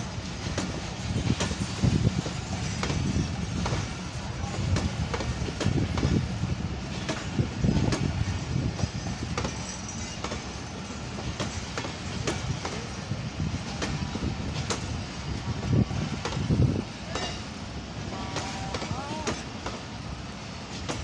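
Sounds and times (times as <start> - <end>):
train coaches rumbling past: 0.0 - 21.0.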